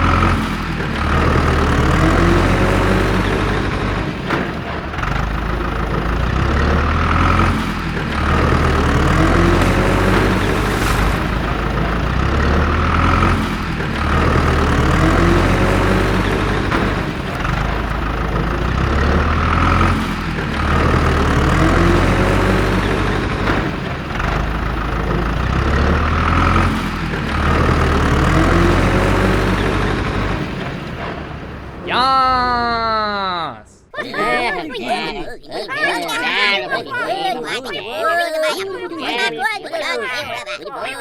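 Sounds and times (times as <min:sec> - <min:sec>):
heavy vehicle engine rumbling: 0:00.0 - 0:41.0.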